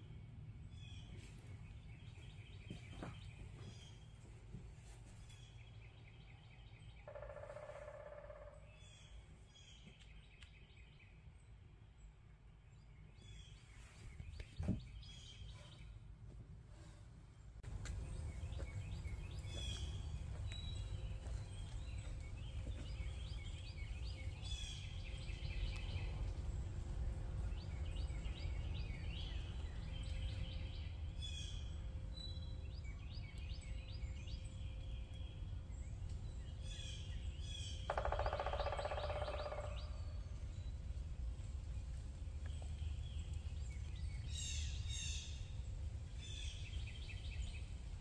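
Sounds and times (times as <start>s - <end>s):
low outdoor rumble: 0.0s - 48.0s
songbirds chirping: 0.0s - 48.0s.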